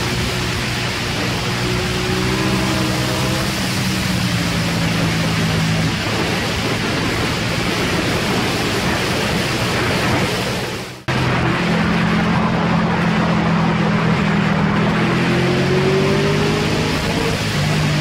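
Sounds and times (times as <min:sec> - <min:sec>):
motorcycle engine at speed: 0:00.0 - 0:18.0
wind rushing on microphone: 0:00.0 - 0:18.0.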